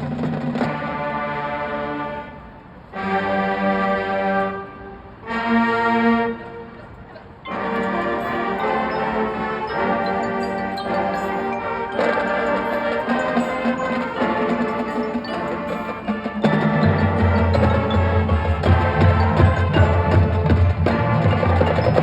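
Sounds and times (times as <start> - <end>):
marching band playing: 0.0 - 22.0.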